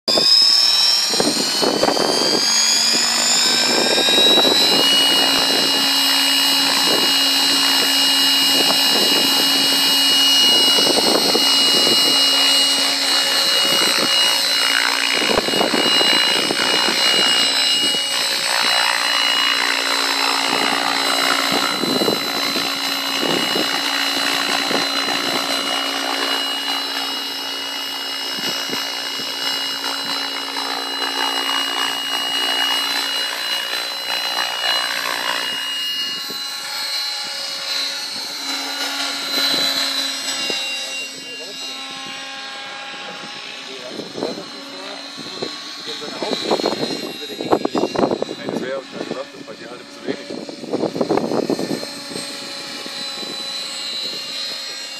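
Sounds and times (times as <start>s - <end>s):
model helicopter whine: 0.0s - 54.9s
main rotor pulsing: 0.1s - 54.9s.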